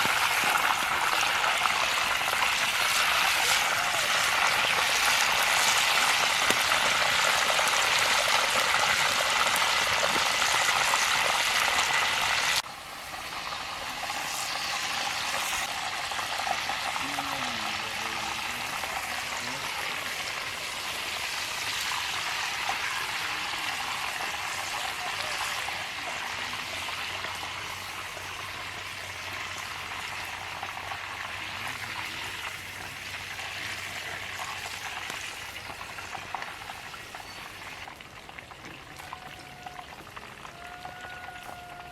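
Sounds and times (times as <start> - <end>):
food sizzling in a pot: 0.0 - 41.9.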